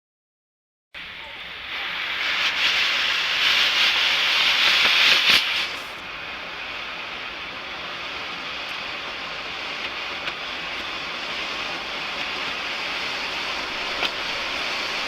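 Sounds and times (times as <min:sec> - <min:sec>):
faint crackles: 0:01.0 - 0:15.0
smoke firework hissing: 0:01.0 - 0:15.0.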